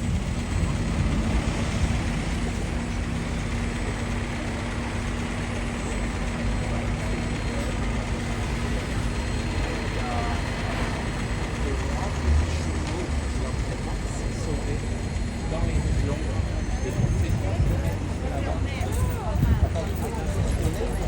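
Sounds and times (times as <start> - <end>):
engine humming: 0.0 - 21.0
faint voices: 0.0 - 21.0
traffic rumble: 0.0 - 21.0.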